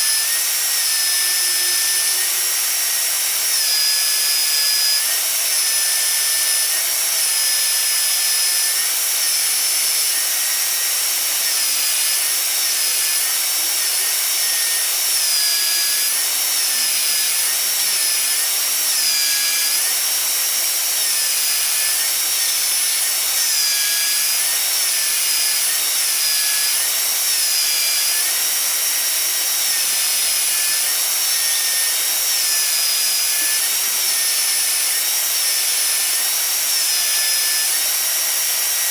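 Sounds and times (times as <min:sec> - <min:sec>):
power tool whining cutting wood: 0:00.0 - 0:38.9.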